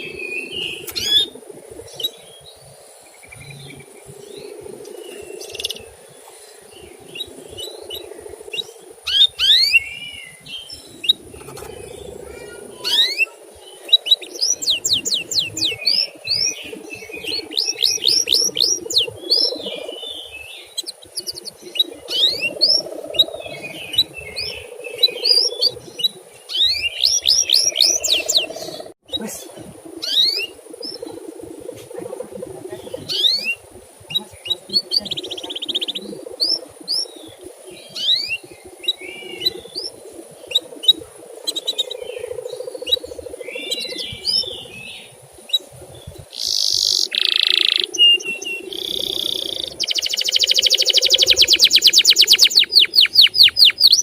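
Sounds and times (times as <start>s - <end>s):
canary chirps and trills: 0.0s - 6.1s, 6.9s - 29.4s, 30.0s - 31.2s, 32.0s - 54.0s.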